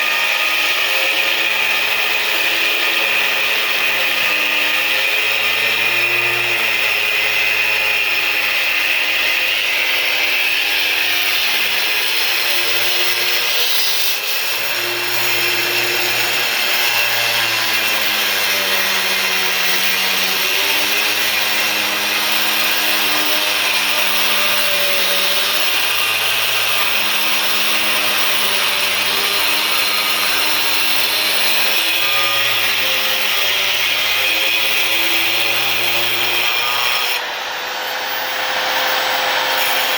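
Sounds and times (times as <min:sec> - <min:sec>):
power tool motor running: 0:00.0 - 0:39.9.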